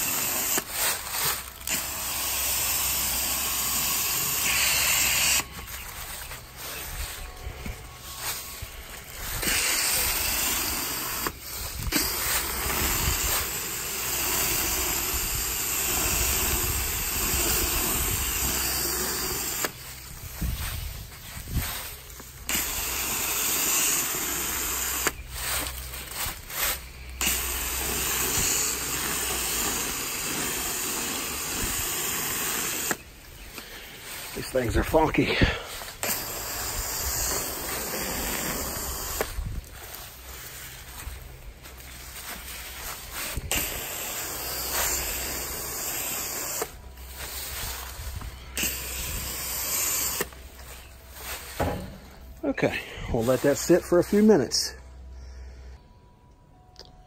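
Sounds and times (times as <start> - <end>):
hose foam sprayer hissing: 0.0 - 54.8.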